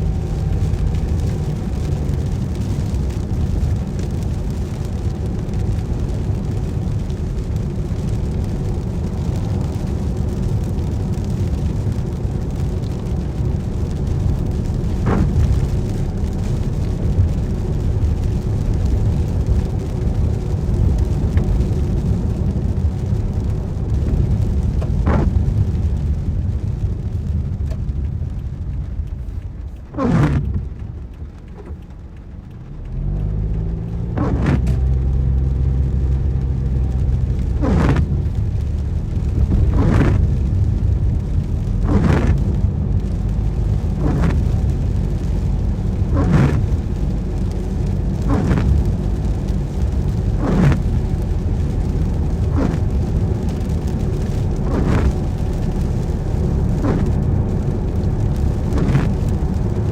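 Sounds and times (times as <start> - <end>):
car engine and tyre noise: 0.0 - 59.9
windscreen wipers swishing: 0.0 - 59.9.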